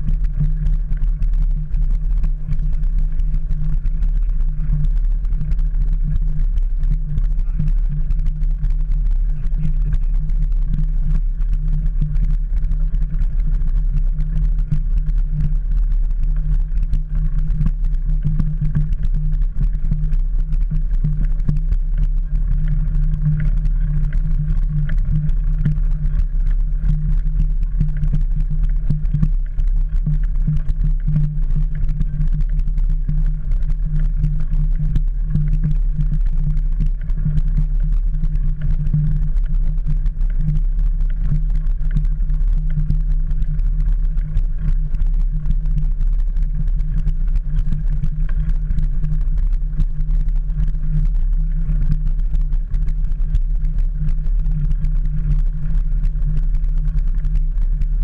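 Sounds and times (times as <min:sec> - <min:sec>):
bike riding vibration on gravel: 0:00.0 - 0:58.0
wind rumble: 0:00.0 - 0:58.0.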